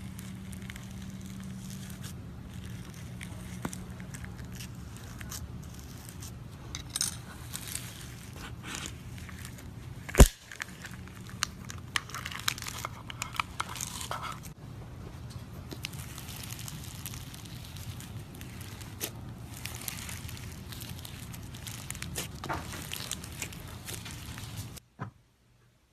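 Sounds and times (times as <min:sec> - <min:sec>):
slime crackling and popping: 0:00.0 - 0:06.4, 0:07.2 - 0:14.6, 0:15.6 - 0:24.8.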